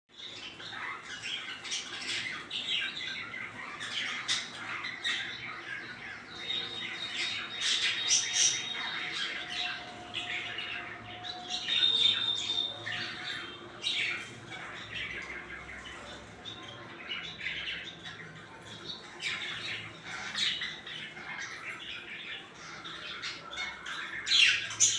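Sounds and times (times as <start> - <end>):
sparrows chirping and squawking: 0.1 - 24.9.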